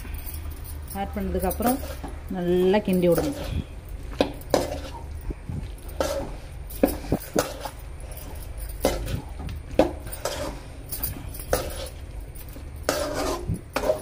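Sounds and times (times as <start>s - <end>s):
metal spoon scraping a pan: 1.5s - 12.2s, 12.8s - 14.0s.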